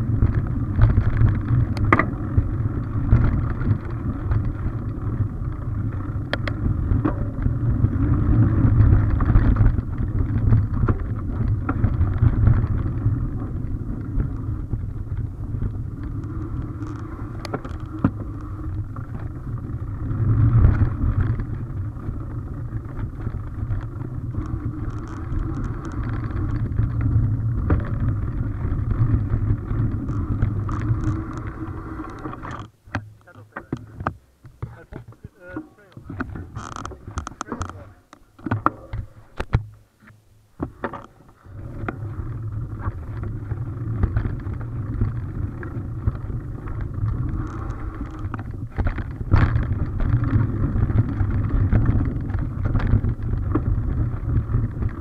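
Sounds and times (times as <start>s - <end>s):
wind on microphone: 0.0s - 32.7s, 40.6s - 55.0s
tyres rumbling on dirt: 0.0s - 39.7s, 40.6s - 55.0s
bike clicking and rattling: 0.0s - 39.8s, 40.6s - 55.0s.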